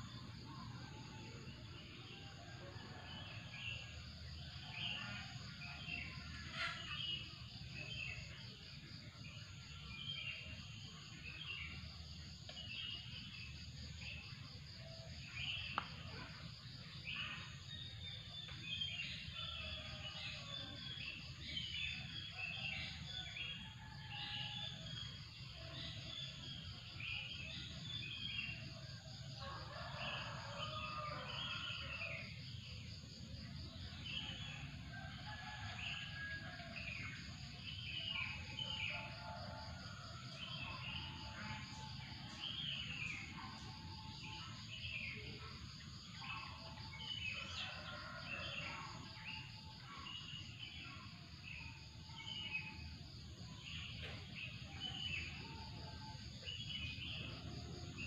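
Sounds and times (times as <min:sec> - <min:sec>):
insect trill: 0:00.0 - 0:58.0.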